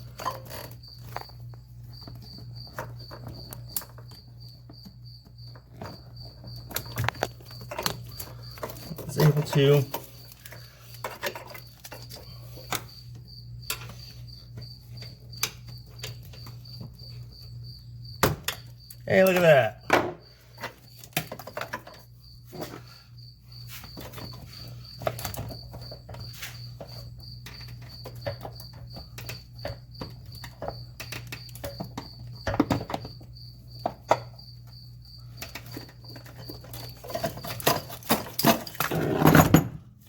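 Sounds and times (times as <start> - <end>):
cricket chirping: 0.0 - 40.0.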